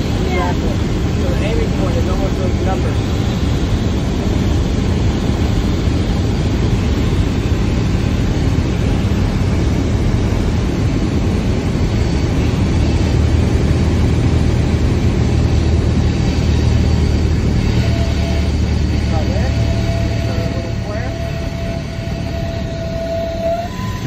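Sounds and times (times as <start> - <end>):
propeller aircraft engine drone: 0.0 - 24.0
rushing airflow: 0.0 - 24.0.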